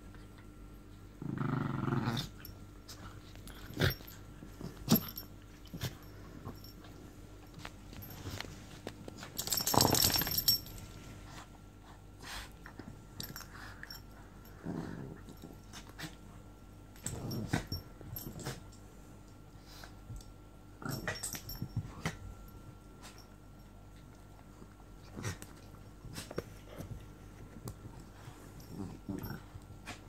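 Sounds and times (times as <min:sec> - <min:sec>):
dogs growling and scuffling: 0:01.1 - 0:11.6, 0:12.2 - 0:16.3, 0:17.0 - 0:18.7, 0:20.8 - 0:23.3, 0:24.0 - 0:30.0.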